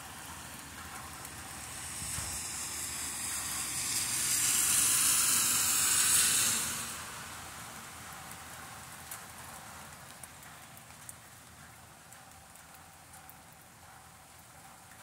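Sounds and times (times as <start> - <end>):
heavy rain on grass and pavement: 0.0 - 15.0.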